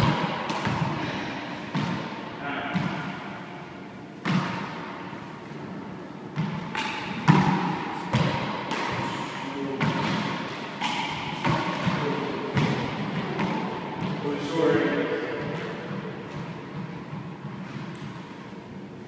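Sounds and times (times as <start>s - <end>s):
handball hits echoing in court: 0.0s - 5.2s, 6.3s - 18.6s.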